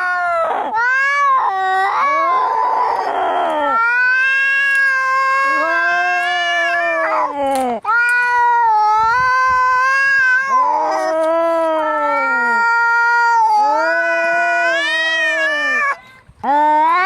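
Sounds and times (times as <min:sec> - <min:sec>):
cats yowling: 0:00.0 - 0:17.0.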